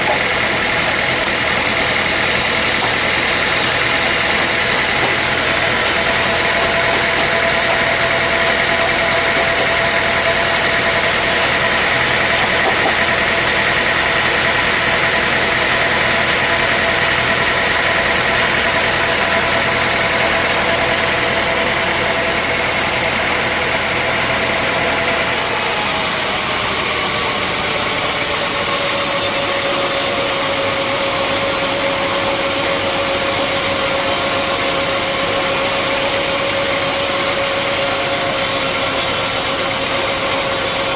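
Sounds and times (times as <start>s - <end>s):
high-pitched machine whine: 0.0s - 40.9s
sawmill machinery engine: 0.0s - 40.9s.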